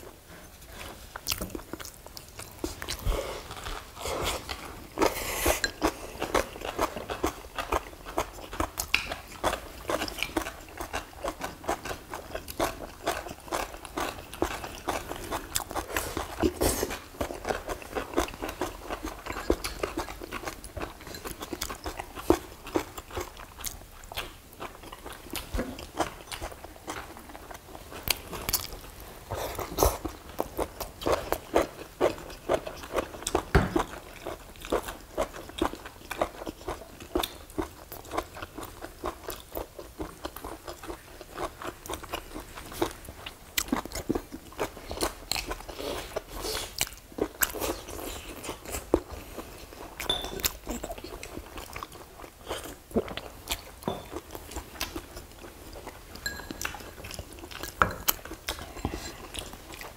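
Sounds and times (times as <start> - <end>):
chewing and crunching: 0.0 - 59.9.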